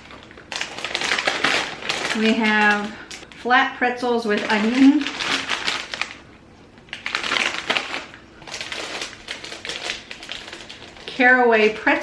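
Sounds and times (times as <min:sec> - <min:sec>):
plastic snack packets crackling: 0:00.0 - 0:03.5, 0:04.1 - 0:12.0.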